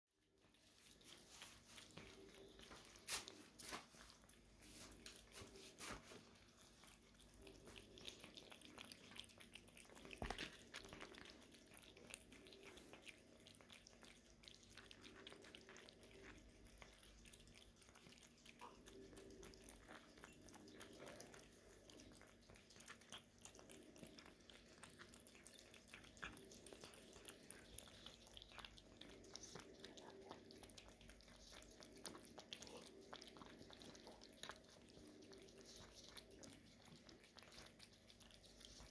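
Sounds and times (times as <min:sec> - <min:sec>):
cats lapping food from bowl: 0:00.2 - 0:38.9.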